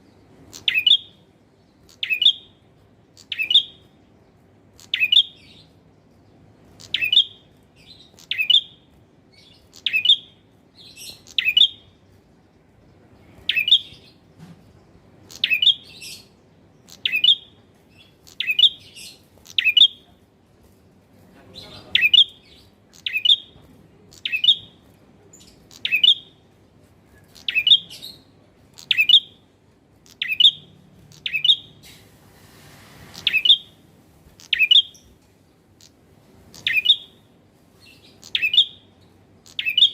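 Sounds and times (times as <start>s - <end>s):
bird chirping: 0.0s - 31.9s, 33.0s - 39.9s.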